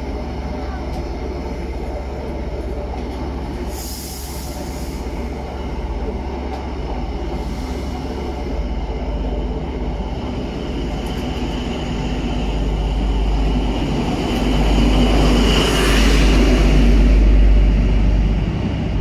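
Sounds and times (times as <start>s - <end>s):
train coaches rumbling on rails: 0.0s - 19.0s.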